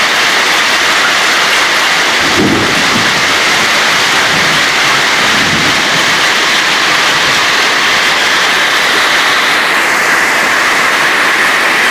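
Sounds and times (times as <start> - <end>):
hail and heavy rain: 0.0 - 11.9.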